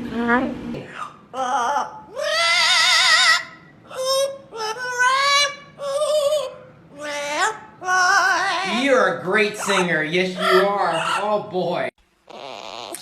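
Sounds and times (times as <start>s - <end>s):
parrot singing warble: 0.9s - 11.4s.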